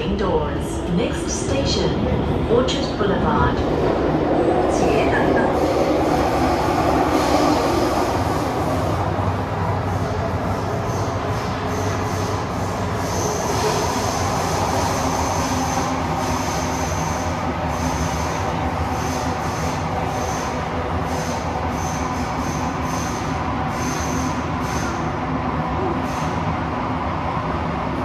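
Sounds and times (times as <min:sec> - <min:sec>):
train rolling rumble: 0:00.0 - 0:28.0.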